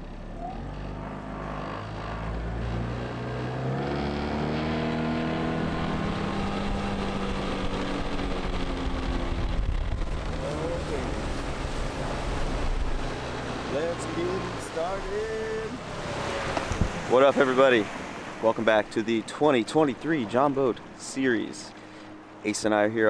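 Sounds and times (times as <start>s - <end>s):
outboard boat motor: 0.0s - 23.0s.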